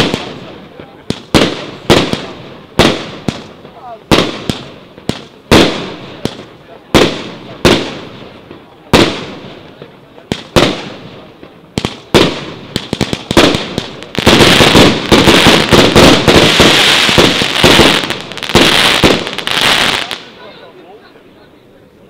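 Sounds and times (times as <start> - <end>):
firework cake bangs: 0.0 - 20.3
fast volley of firework bangs: 0.0 - 20.5.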